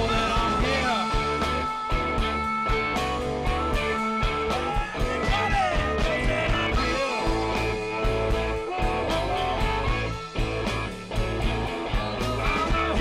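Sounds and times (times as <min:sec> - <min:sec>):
electric guitar bending pitch: 0:00.0 - 0:13.0
live blues rock band: 0:00.0 - 0:13.0.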